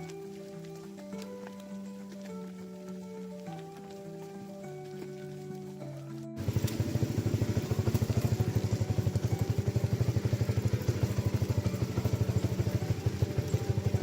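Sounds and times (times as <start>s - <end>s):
small engine puttering: 0.0s - 14.0s.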